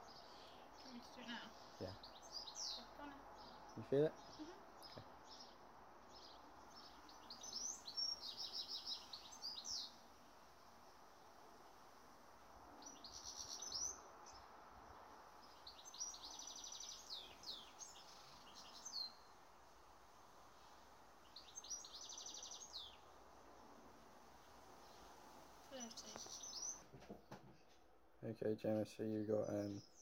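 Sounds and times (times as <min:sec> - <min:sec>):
faint steady hiss: 0:00.0 - 0:30.0
songbird singing: 0:00.0 - 0:30.0.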